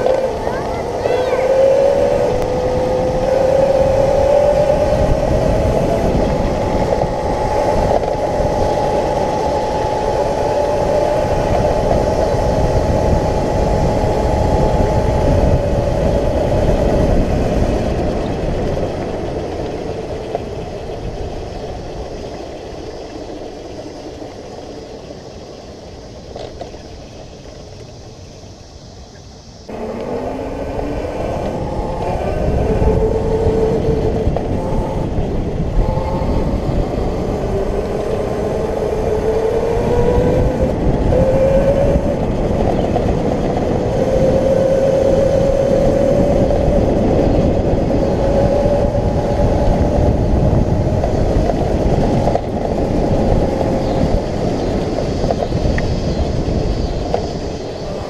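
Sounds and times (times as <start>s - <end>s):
electric kart motor whining: 0.0s - 28.6s, 29.6s - 58.0s
tyres rumbling on pavement: 0.0s - 58.0s.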